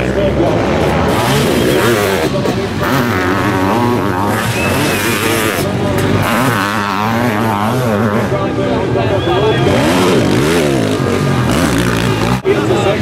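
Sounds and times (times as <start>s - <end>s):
motorcycle engines revving hard: 0.0s - 13.0s.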